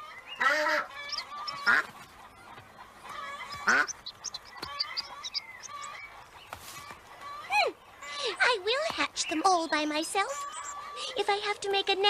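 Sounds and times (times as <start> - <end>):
faint high chirping: 0.0 - 1.8, 2.4 - 8.5, 9.1 - 11.2
ducks quacking: 0.0 - 11.5.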